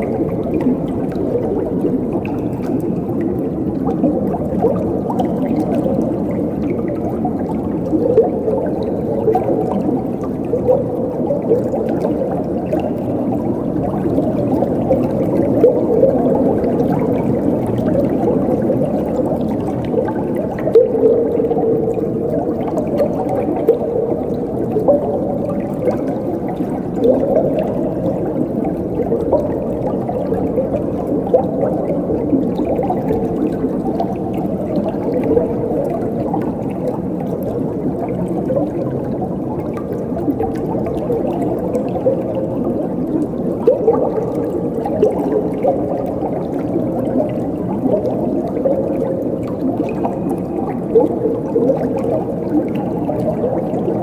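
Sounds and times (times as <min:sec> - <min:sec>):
water gurgling and splashing: 0:00.0 - 0:54.0.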